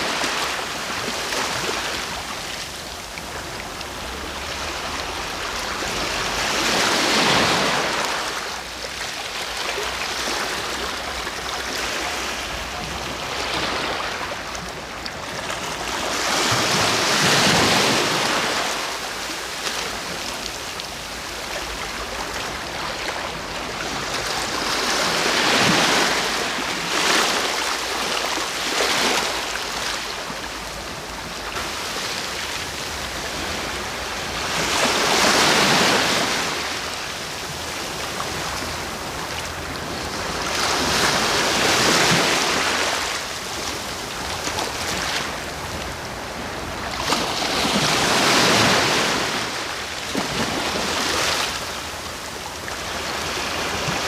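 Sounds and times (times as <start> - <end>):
sea waves breaking: 0.0 - 54.0
steady surf hiss: 0.0 - 54.0.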